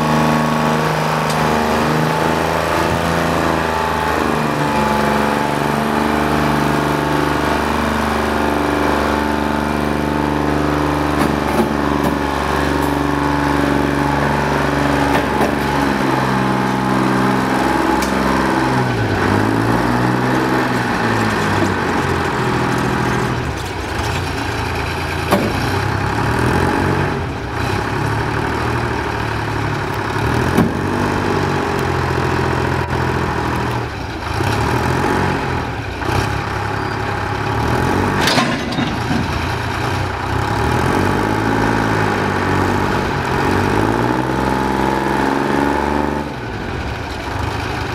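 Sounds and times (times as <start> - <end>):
diesel engine idling: 0.0 - 44.4.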